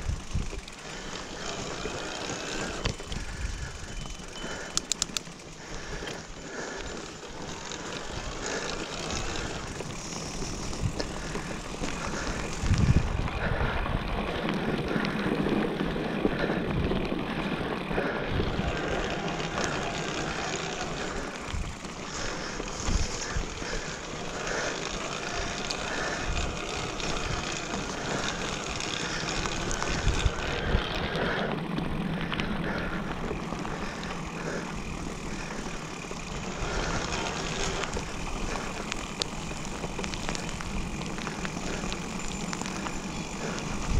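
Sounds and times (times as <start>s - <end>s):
bike tyres rolling on dirt trail: 0.0s - 43.9s.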